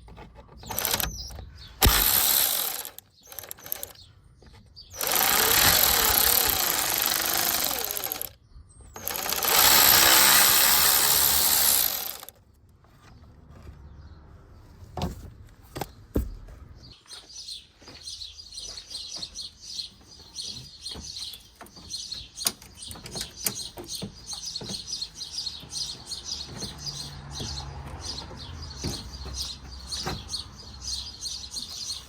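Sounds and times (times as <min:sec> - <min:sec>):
small birds chirping: 0:00.0 - 0:15.0, 0:15.6 - 0:32.0.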